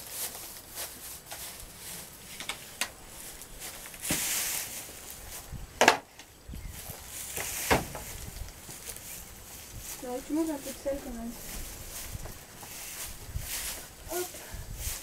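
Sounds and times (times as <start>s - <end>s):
straw bedding rustling: 0.0s - 5.7s, 6.6s - 15.0s.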